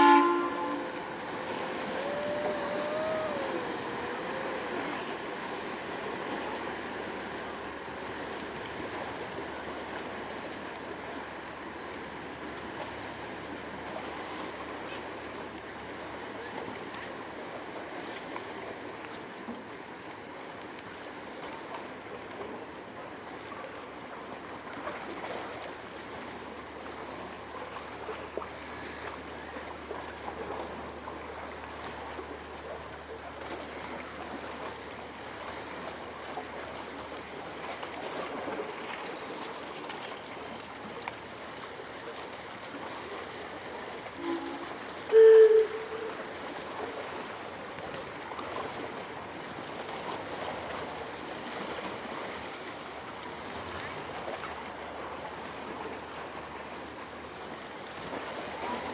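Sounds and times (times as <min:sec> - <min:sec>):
paddle water churning and splashing: 0:00.0 - 0:58.9.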